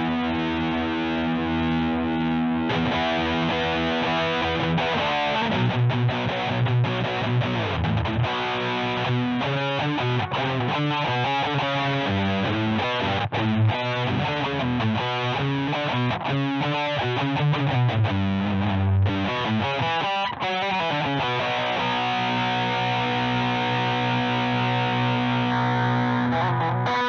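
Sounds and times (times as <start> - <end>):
distorted electric guitar riff: 0.0 - 27.0.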